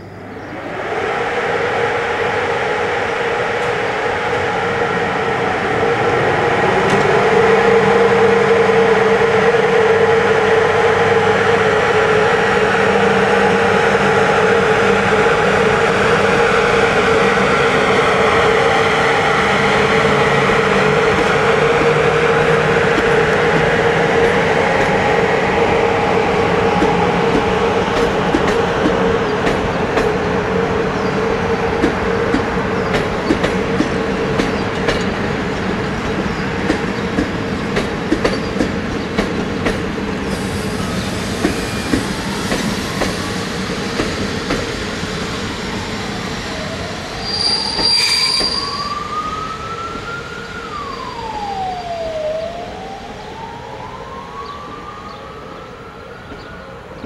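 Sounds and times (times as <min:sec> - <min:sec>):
electric locomotive humming: 0:00.0 - 0:57.0.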